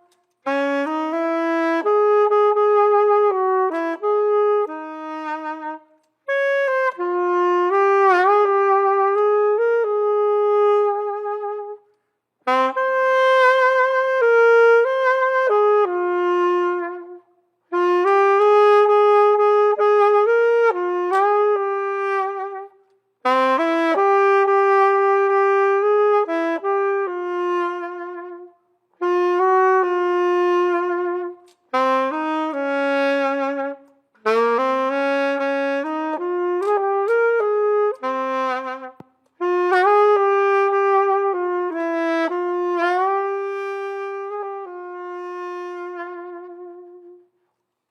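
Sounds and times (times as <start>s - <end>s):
saxophone playing slow melody: 0.0s - 47.6s.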